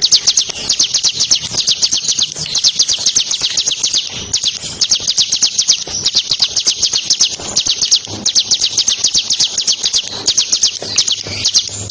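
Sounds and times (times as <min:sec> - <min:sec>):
bird fast trill: 0:00.0 - 0:11.9.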